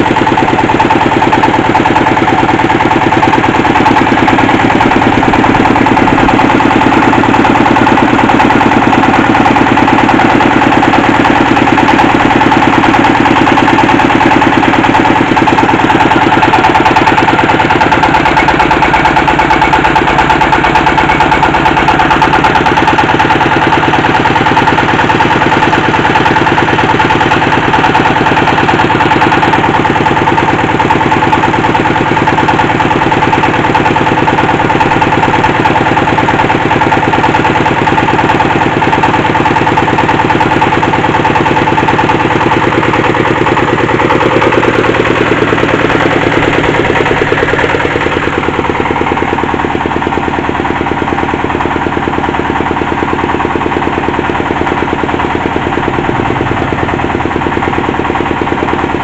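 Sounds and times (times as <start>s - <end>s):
drilling machine engine chugging: 0.0s - 59.0s.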